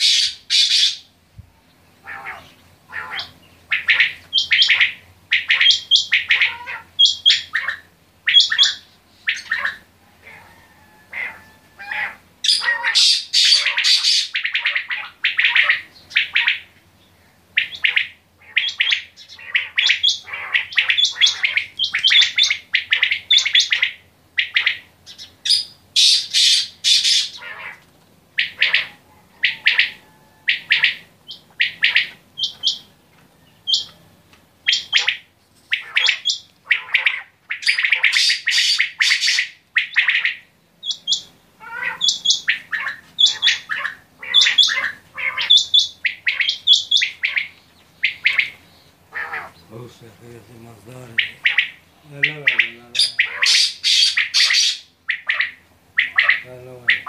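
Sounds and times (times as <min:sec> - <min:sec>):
quails calling: 0:00.0 - 0:57.0.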